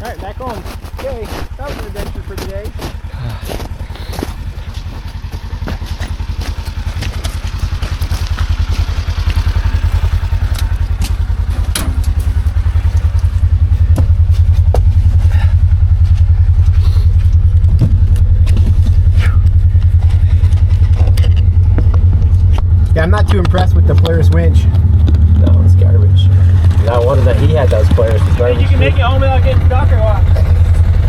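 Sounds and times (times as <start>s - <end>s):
knocks and rattles: 0.0s - 25.7s
utility vehicle engine running: 0.0s - 31.0s.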